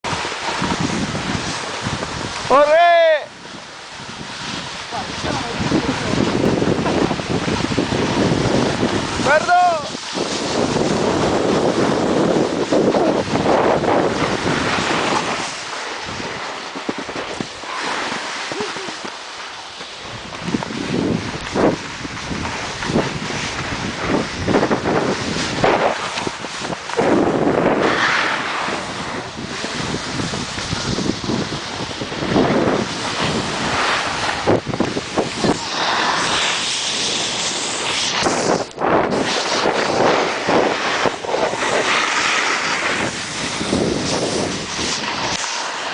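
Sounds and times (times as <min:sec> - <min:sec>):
wind rushing over microphone: 0:00.0 - 0:45.9
snowboard scraping over snow: 0:00.1 - 0:45.9.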